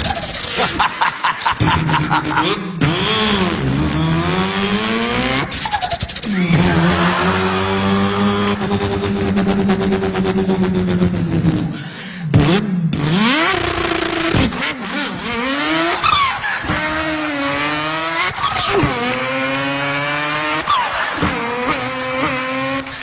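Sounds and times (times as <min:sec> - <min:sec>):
person imitating car engine: 0:00.0 - 0:23.0.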